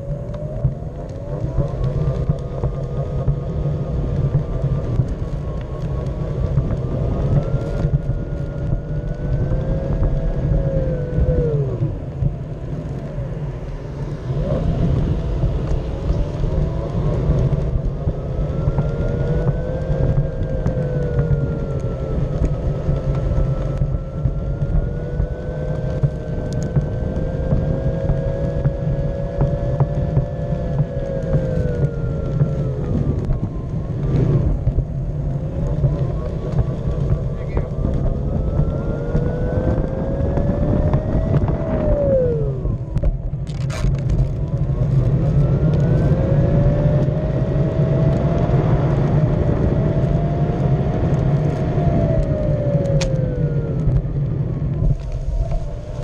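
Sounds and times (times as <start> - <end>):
small vehicle motor whine: 0.0 - 56.0
wheels rolling on concrete: 0.0 - 56.0.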